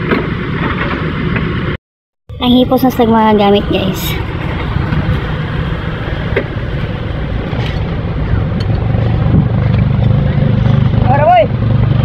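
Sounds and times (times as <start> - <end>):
truck engine idling: 2.3 - 12.0.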